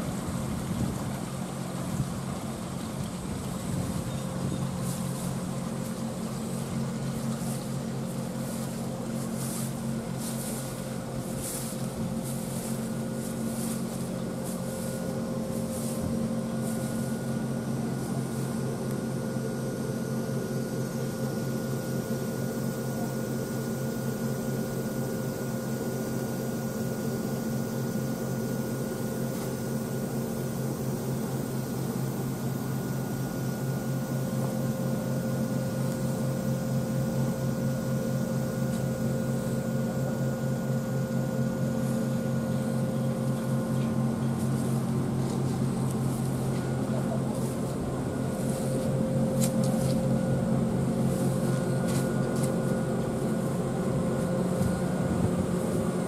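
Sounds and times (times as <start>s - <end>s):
electric locomotive machinery humming: 0.0s - 56.0s.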